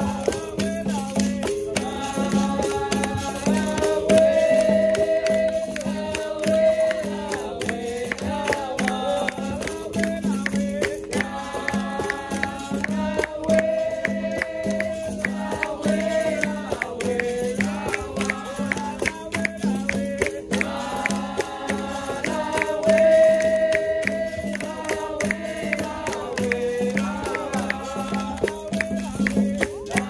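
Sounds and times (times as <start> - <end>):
hand percussion: 0.0 - 30.0
voices singing together: 0.0 - 30.0.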